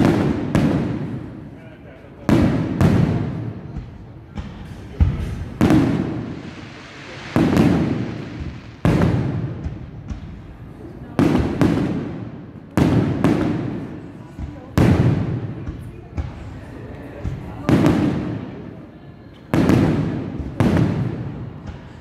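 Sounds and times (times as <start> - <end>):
fireworks booming: 0.0 - 18.9, 19.5 - 22.0.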